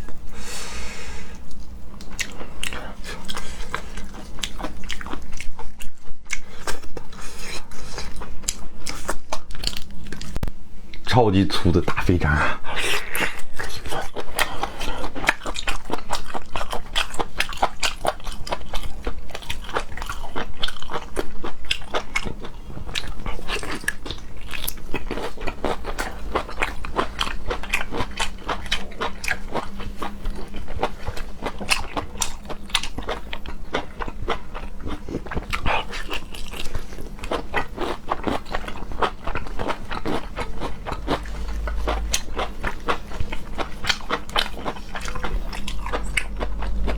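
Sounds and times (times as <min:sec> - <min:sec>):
close chewing with mouth clicks: 0:01.3 - 0:11.1, 0:12.6 - 0:46.9.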